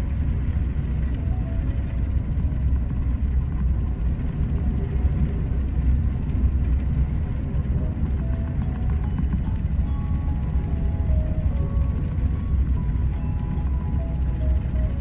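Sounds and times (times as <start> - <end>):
heavy seas: 0.0 - 15.0
storm wind rumble: 0.0 - 15.0
wind buffeting microphone: 0.0 - 15.0.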